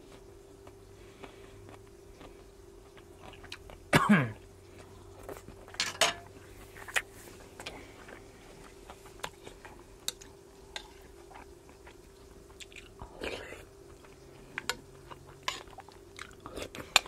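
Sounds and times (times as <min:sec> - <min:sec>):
person chewing food: 0:00.0 - 0:05.8, 0:06.4 - 0:17.0
faint steady hum: 0:00.0 - 0:17.0.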